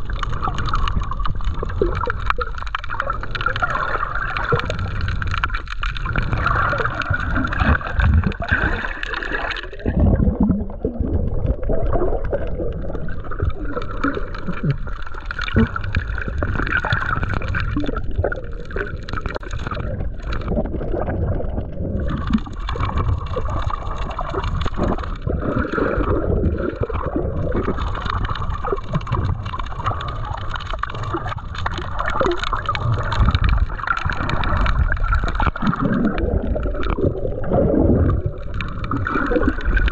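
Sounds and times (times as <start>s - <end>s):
water gurgling underwater: 0.0s - 39.9s.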